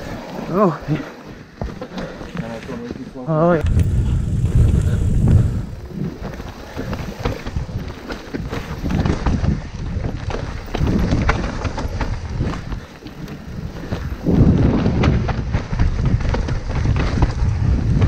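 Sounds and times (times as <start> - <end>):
bike tyres rumbling: 0.0 - 18.0
bike clacking and rattling: 1.6 - 18.0
wind buffeting microphone: 3.3 - 18.0.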